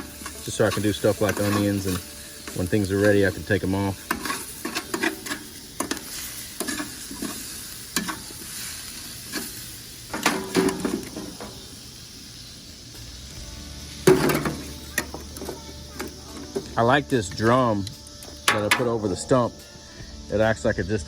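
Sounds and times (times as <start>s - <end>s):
onions sizzling in a pan: 0.0s - 21.0s.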